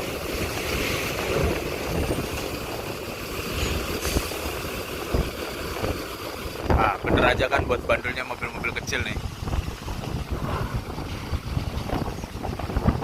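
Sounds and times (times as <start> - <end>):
bus engine low rumble: 0.0 - 13.0.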